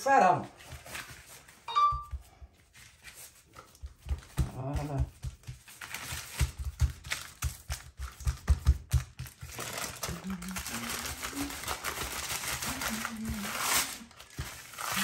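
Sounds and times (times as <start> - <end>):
baking paper crinkling: 0.0 - 15.0.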